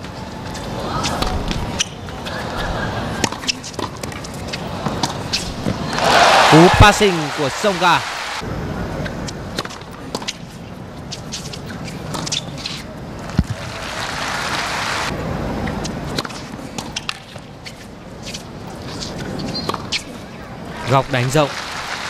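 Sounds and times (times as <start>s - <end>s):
stadium crowd noise: 0.0s - 22.0s.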